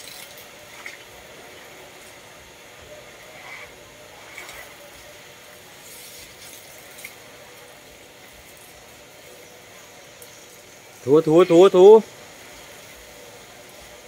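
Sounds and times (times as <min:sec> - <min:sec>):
hose water spraying and spattering: 0:00.0 - 0:14.0.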